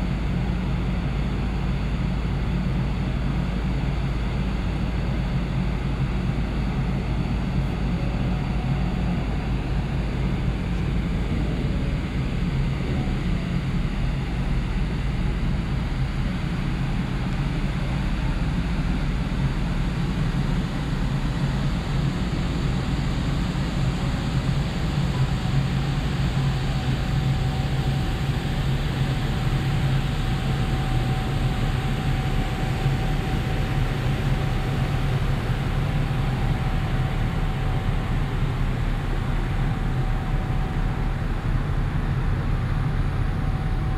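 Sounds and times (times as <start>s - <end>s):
ship machinery drone: 0.0s - 43.9s.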